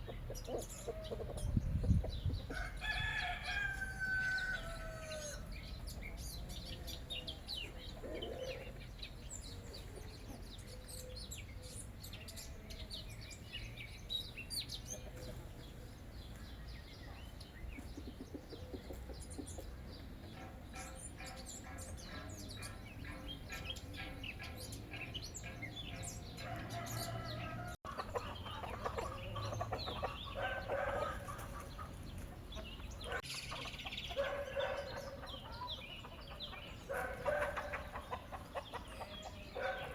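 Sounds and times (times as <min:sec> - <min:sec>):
chickens clucking: 0:00.0 - 0:03.2, 0:03.8 - 0:10.9, 0:14.5 - 0:39.9
small birds chirping: 0:00.0 - 0:39.9.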